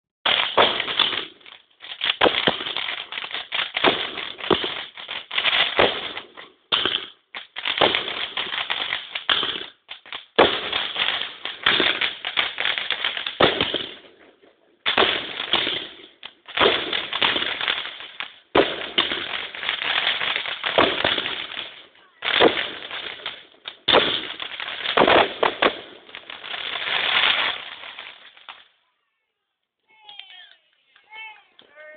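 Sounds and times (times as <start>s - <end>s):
fireworks crackling and bangs: 0.2s - 29.0s, 29.6s - 31.9s.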